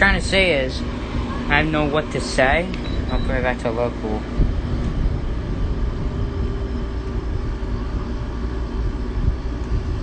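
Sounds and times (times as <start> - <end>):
air conditioner hum: 0.0 - 10.0.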